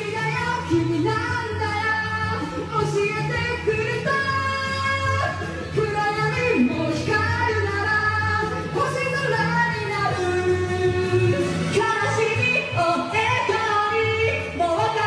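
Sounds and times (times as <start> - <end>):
person singing: 0.0 - 15.0
pop song backing track: 0.0 - 15.0.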